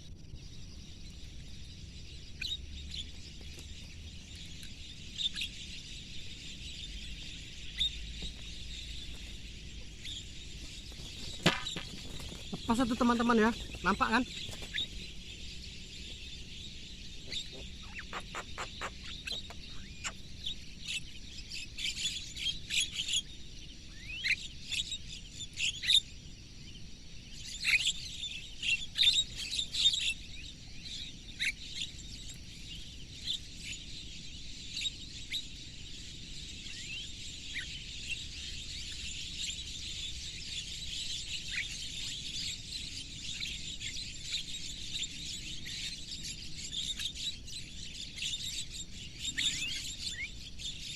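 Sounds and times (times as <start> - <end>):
wild birds chirping: 0.0 - 50.9.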